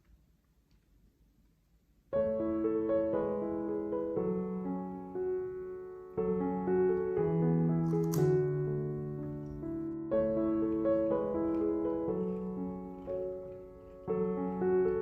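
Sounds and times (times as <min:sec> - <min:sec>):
soft piano music: 0:02.0 - 0:15.0.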